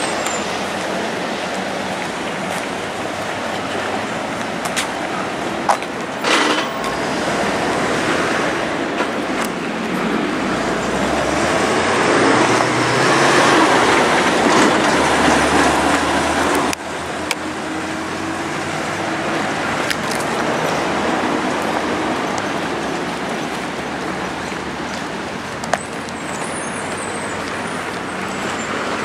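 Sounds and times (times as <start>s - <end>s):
city street traffic: 0.0s - 29.0s
heavy vehicle passing: 0.0s - 29.0s.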